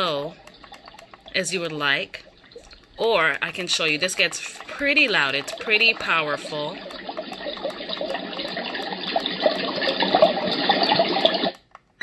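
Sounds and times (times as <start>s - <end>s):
sound machine running water: 0.0s - 11.8s.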